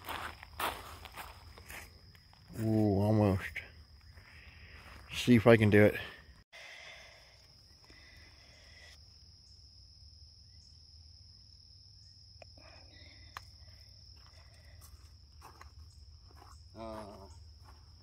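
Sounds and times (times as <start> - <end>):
crickets droning: 0.0 - 18.0.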